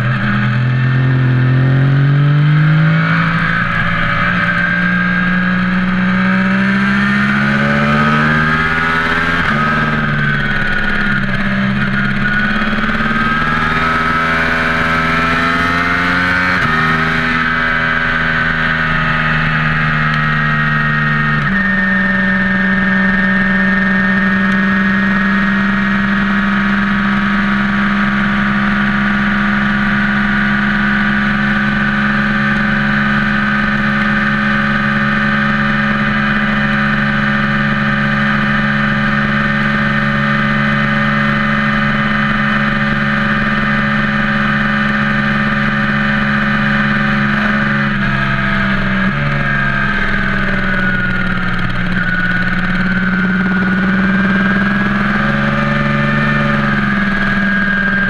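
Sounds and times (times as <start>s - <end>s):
high whine: 0.0s - 58.0s
vehicle engine shifting gears: 0.0s - 58.0s.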